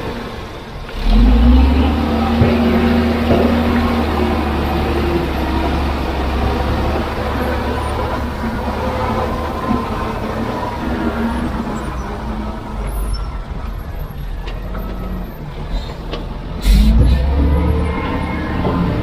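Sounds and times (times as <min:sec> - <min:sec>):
diesel machinery engine rumbling: 0:00.0 - 0:19.0.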